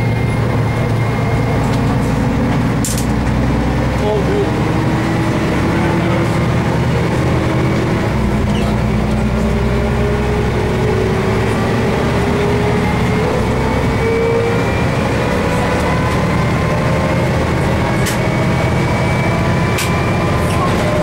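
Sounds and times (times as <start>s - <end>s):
bus diesel engine running: 0.0s - 21.0s.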